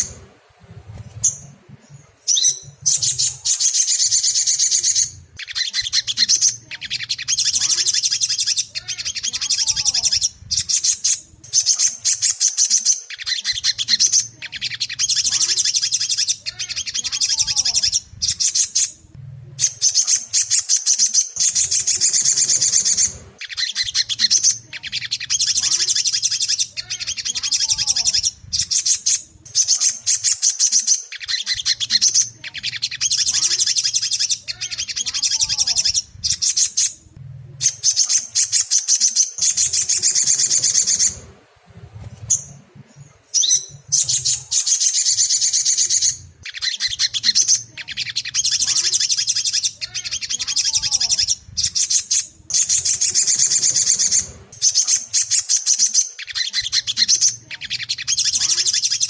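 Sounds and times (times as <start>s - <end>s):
faint low hum: 0.0s - 59.0s
high-pitched bird twittering chirps: 0.9s - 59.0s.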